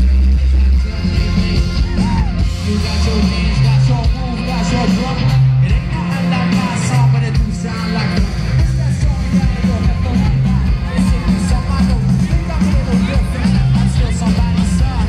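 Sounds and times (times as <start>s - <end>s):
heavy bass line: 0.0s - 15.0s
live pop-rock band: 0.0s - 15.0s
person singing: 0.8s - 15.0s.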